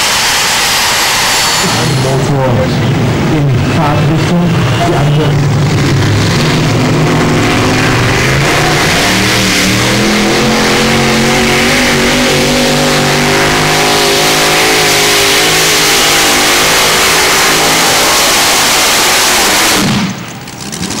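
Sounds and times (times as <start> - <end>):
pulling tractor engines roaring: 0.0 - 21.0.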